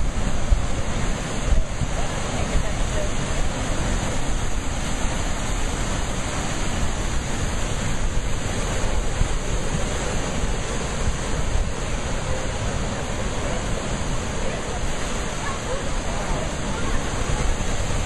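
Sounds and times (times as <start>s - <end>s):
ocean surf on rocks: 0.0s - 18.0s.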